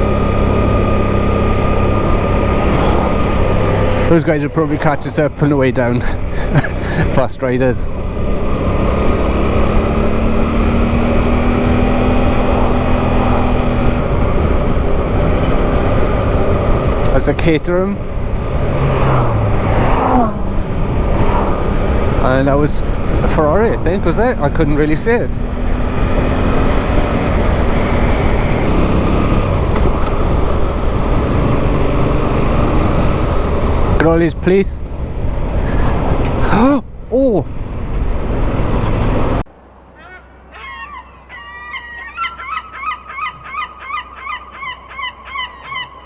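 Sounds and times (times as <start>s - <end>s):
motorcycle engine running: 0.0s - 39.5s
wind and road noise: 0.0s - 46.0s.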